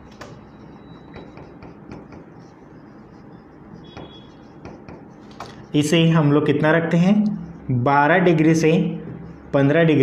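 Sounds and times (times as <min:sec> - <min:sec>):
low room hum: 0:00.0 - 0:10.0
marker scratching on whiteboard: 0:00.0 - 0:10.0.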